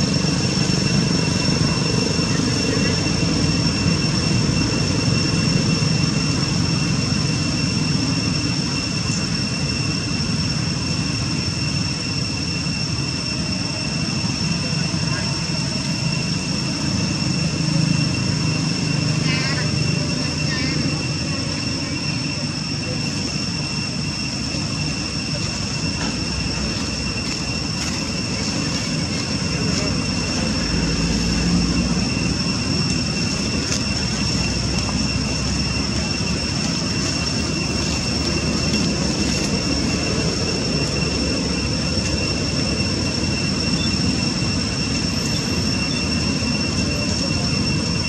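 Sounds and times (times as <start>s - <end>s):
high-pitched whine: 0.0s - 48.0s.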